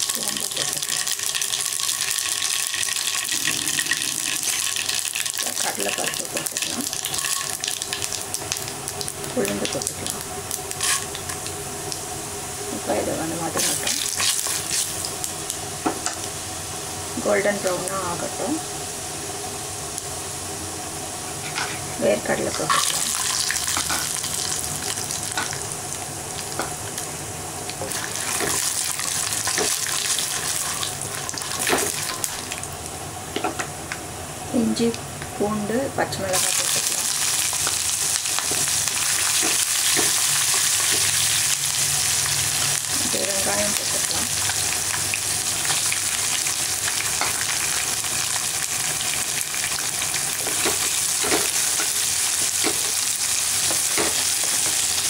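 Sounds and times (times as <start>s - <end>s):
peanuts sizzling in hot oil: 0.0s - 55.0s.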